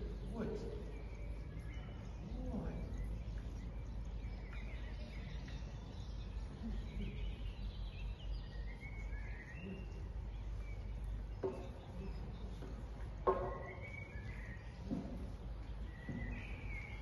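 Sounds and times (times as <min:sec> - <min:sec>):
faint small-bird chirps: 0:00.0 - 0:12.8, 0:13.4 - 0:17.0.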